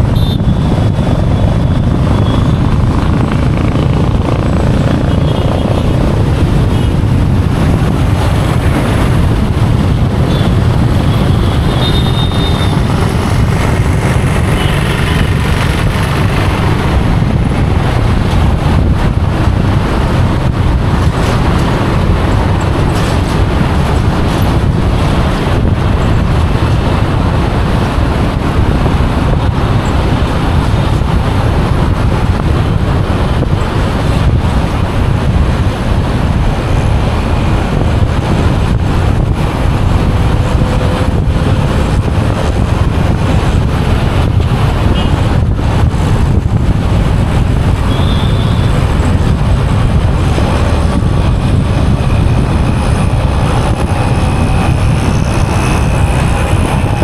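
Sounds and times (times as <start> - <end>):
surrounding traffic: 0.0 - 57.0
vehicle road noise: 0.0 - 57.0
wind rumble on microphone: 0.0 - 57.0.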